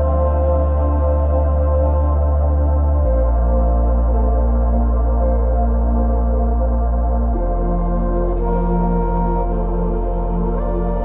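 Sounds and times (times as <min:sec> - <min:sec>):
ambient synthesizer music: 0:00.0 - 0:11.0.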